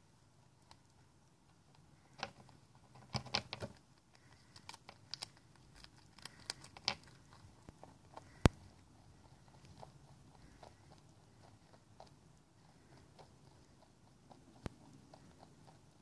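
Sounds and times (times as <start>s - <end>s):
rabbit nibbling and crunching: 0.0s - 16.0s.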